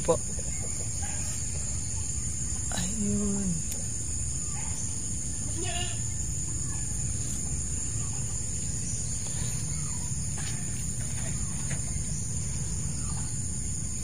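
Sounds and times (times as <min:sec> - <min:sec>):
high-pitched insect drone: 0:00.0 - 0:14.0
low background rumble: 0:00.0 - 0:14.0.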